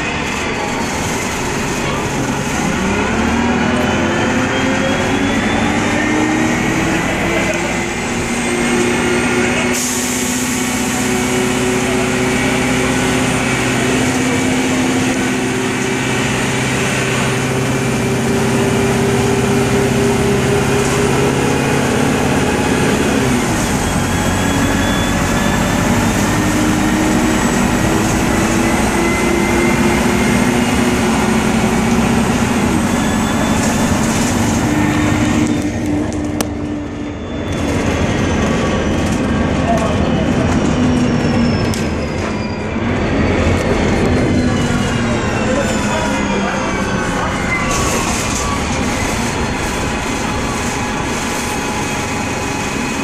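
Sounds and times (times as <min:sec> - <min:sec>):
bus engine drone and whine: 0:00.0 - 0:53.0.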